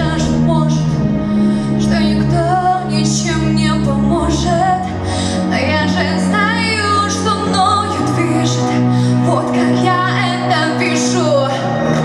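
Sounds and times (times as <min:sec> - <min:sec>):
sustained low accompaniment chords: 0:00.0 - 0:12.0
woman singing with vibrato: 0:00.0 - 0:12.0.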